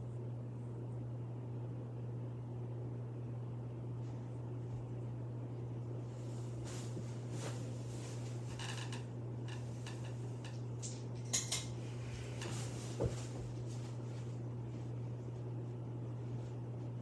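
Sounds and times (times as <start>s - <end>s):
ceiling fan humming: 0.0s - 17.0s.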